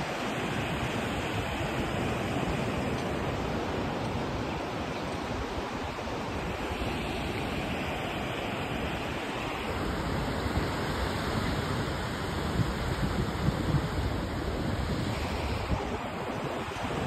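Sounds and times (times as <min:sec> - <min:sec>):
ocean surf washing up beach: 0:00.0 - 0:17.0
wind buffeting microphone: 0:00.0 - 0:17.0.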